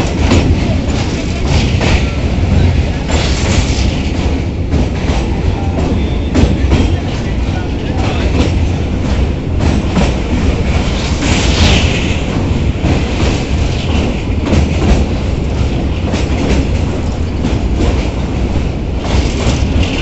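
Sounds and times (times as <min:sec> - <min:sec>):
train rumbling over bridge: 0:00.0 - 0:20.0
wheels clattering over rail joints: 0:00.0 - 0:20.0.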